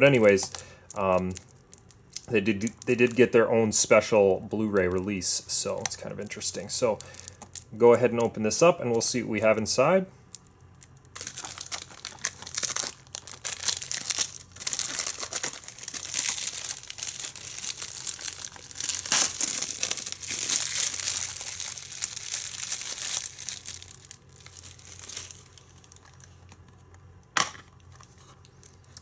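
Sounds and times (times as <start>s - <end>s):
plastic wrap crinkling: 0.0s - 27.0s.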